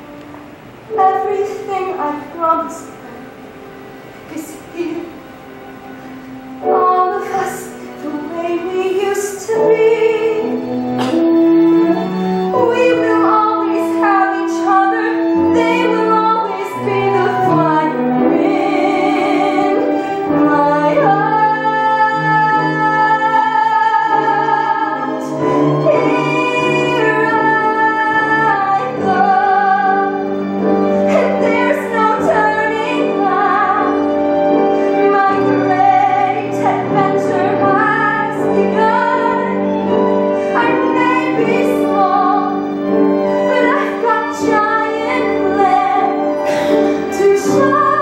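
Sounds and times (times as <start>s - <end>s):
instrumental accompaniment: 0.0s - 48.0s
woman singing with vibrato: 0.8s - 5.9s, 6.6s - 48.0s.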